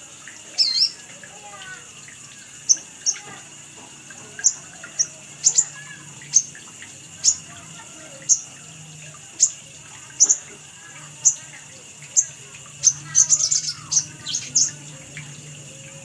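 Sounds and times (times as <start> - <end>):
other birds chirping: 0.4 - 16.0.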